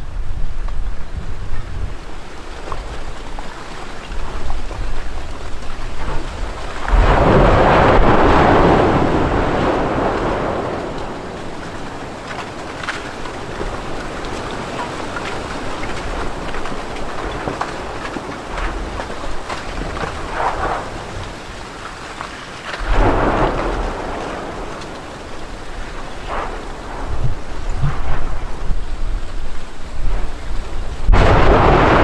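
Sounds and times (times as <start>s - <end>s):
deep volcanic rumble: 0.0s - 32.0s
volcano rushing rumble with crackles: 0.0s - 32.0s.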